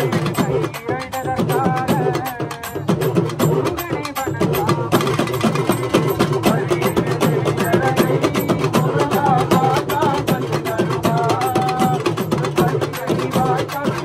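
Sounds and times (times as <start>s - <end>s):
barrel drums drumming: 0.0s - 14.0s.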